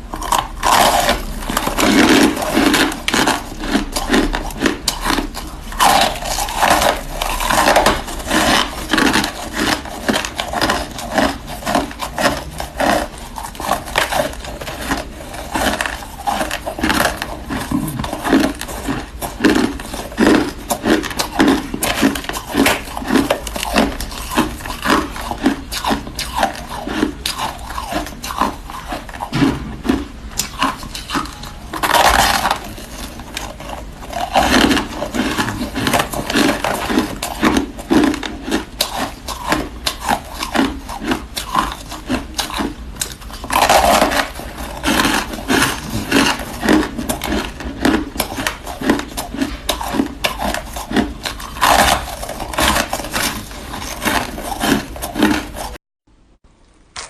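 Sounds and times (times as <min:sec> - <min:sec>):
crunching shaved ice: 0:00.0 - 0:55.8.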